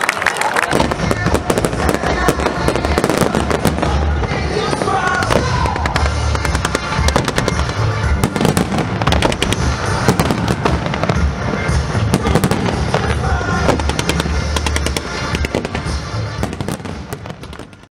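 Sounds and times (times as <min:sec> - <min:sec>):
fireworks bangs and crackles: 0:00.3 - 0:17.9.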